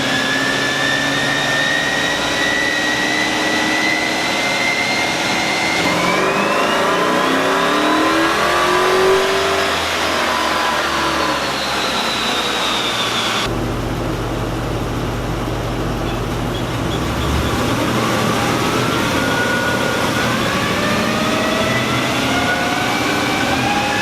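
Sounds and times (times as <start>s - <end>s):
car engine revving on dyno: 0.0s - 24.0s.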